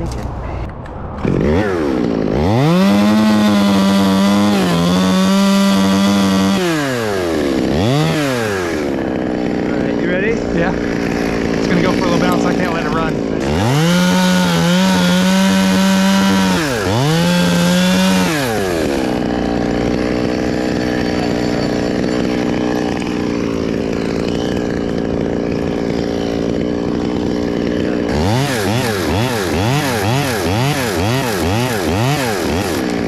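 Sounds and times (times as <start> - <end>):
chainsaw cutting wood: 1.2 - 33.0.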